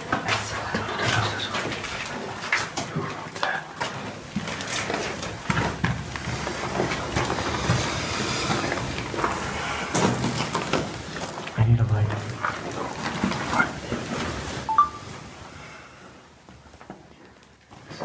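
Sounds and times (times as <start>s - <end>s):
rustling handling noise: 0.0s - 15.6s.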